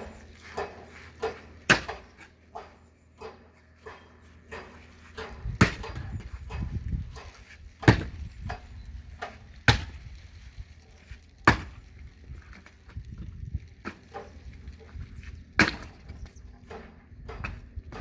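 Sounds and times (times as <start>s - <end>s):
axe splitting firewood: 0.0s - 10.1s, 11.0s - 13.2s, 13.8s - 18.0s.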